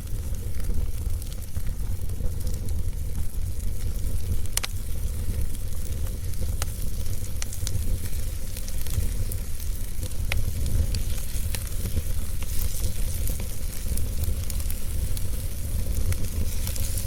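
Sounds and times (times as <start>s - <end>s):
fire crackling: 0.0s - 17.0s
steady hiss: 0.0s - 17.0s.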